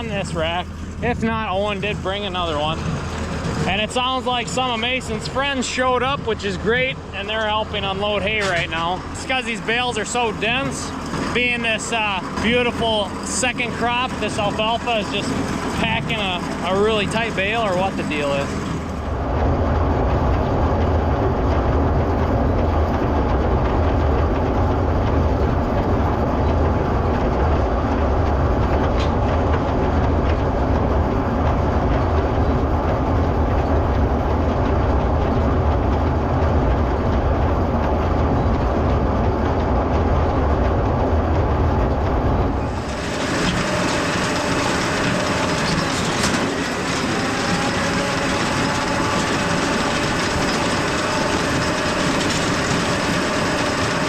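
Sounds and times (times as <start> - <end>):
baler clatter: 0.0 - 54.0
tractor engine rumbling: 0.0 - 54.0.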